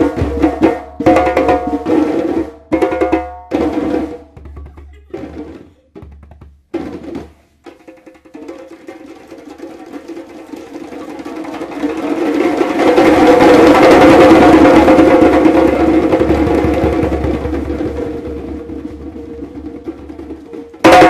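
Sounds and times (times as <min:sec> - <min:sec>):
djembes drum roll: 0:00.0 - 0:21.0.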